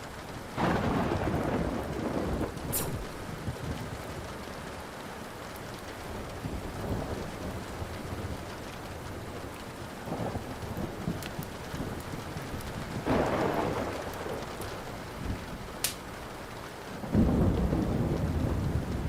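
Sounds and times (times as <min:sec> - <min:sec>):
steady rain: 0:00.0 - 0:19.0
thunder rumbling: 0:00.0 - 0:19.0
wood fire crackles: 0:00.0 - 0:19.0.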